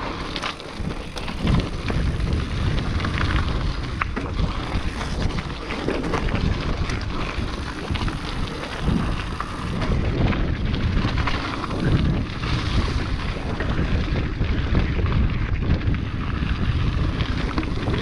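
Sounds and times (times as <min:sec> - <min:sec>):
bike clicks and rattles over stones: 0:00.0 - 0:18.0
bike tyres rumbling on dirt trail: 0:00.0 - 0:18.0
wind buffeting microphone: 0:00.0 - 0:18.0.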